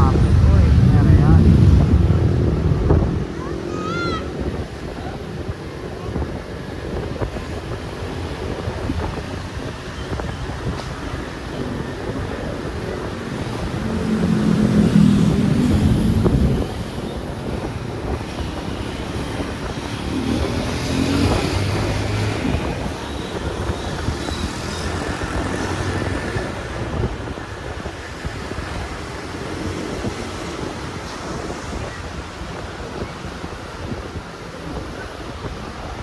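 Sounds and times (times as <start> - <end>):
road and engine noise: 0.0 - 36.0
wind buffeting microphone: 0.0 - 36.0.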